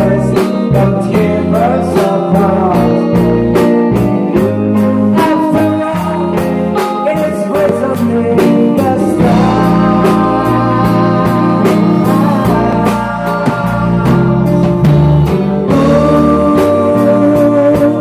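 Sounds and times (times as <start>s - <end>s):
drum kit: 0.0s - 18.0s
electric bass: 0.0s - 18.0s
electric guitars: 0.0s - 18.0s
lead vocal singing: 0.0s - 18.0s.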